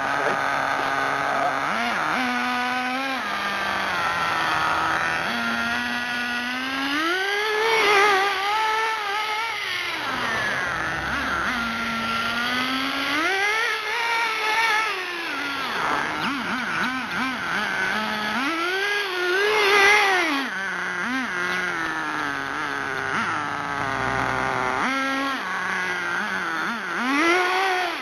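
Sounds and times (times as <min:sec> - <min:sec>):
rc buggy nitro engine running: 0:00.0 - 0:28.0.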